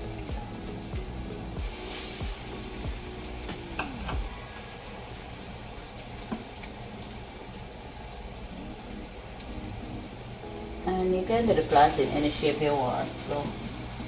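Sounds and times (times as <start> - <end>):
background music: 0.0 - 14.0
food sizzling in hot oil: 0.0 - 14.0.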